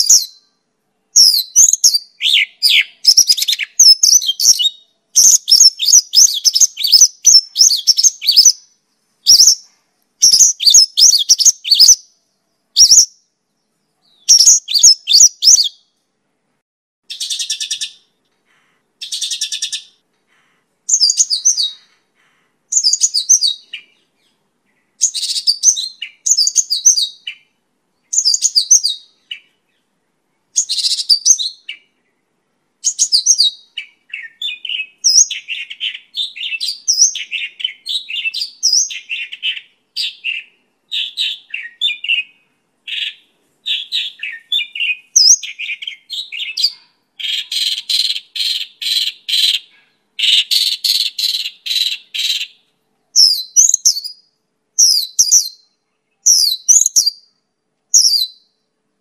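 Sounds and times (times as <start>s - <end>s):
lark singing: 0.0s - 13.2s, 14.0s - 15.8s, 17.1s - 22.0s, 22.7s - 29.6s, 30.6s - 32.0s, 32.8s - 58.6s.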